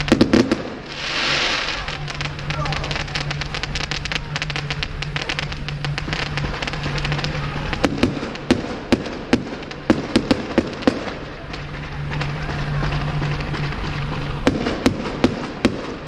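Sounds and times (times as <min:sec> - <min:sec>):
firework shells bursting bangs: 0:00.0 - 0:16.0
fireworks crackling: 0:00.0 - 0:16.0.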